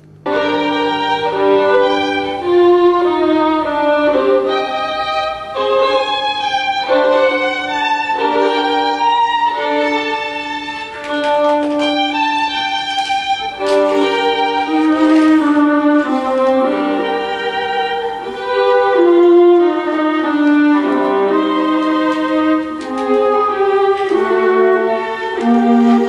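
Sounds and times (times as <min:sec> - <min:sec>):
instrumental music with held notes: 0:00.0 - 0:26.0.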